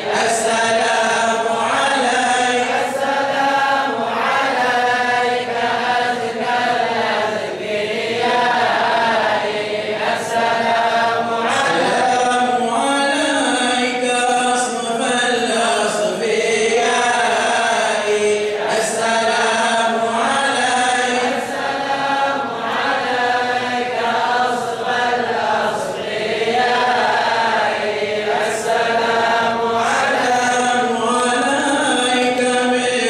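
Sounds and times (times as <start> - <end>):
men chanting a hymn: 0.0 - 33.0.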